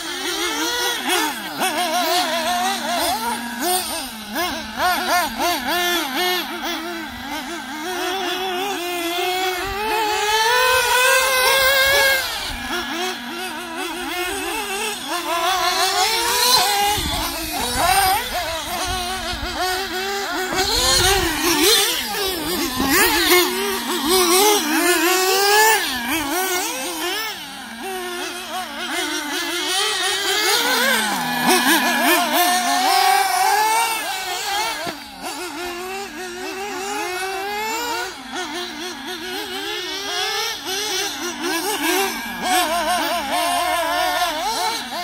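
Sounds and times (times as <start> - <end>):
model car nitro engines revving: 0.0 - 45.0.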